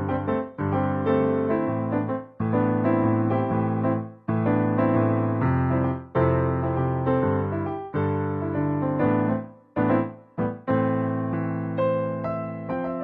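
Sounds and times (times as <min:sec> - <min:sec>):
gentle solo piano: 0:00.0 - 0:13.0.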